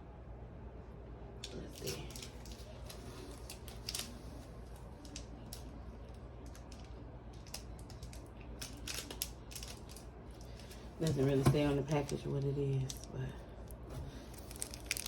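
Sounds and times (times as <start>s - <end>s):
steady low hum: 0.0s - 15.0s
plastic package clicks and crinkles: 1.4s - 10.8s, 12.0s - 15.0s.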